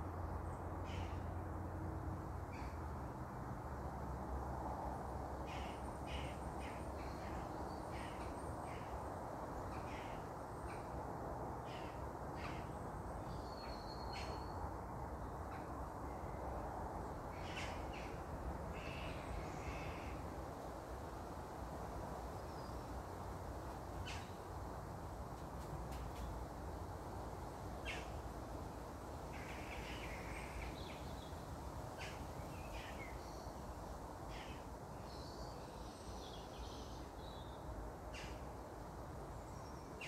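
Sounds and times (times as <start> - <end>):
steady background hiss: 0.0 - 40.0.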